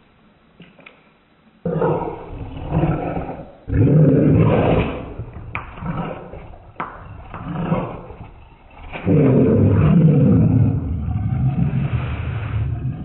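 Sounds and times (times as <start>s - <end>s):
dog growling deeply: 1.7s - 13.0s.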